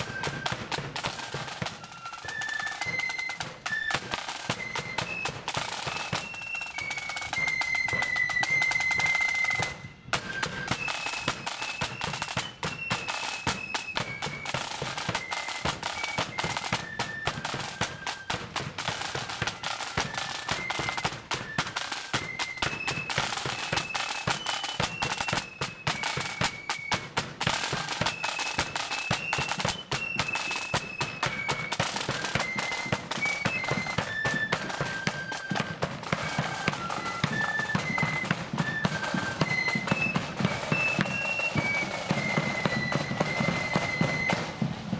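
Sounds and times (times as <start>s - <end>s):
flutes playing high tune: 0.0s - 44.9s
side drum strokes: 0.0s - 44.9s.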